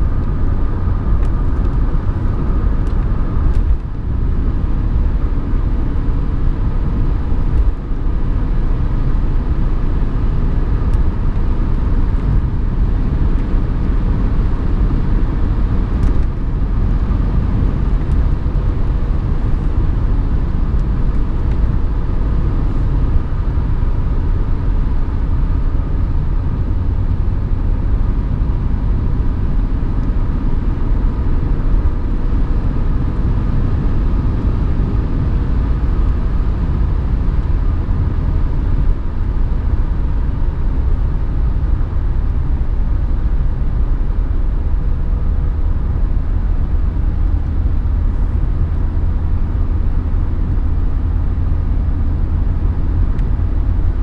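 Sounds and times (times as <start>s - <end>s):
diesel engine running: 0.0s - 54.0s
road and tyre rumble: 0.0s - 54.0s.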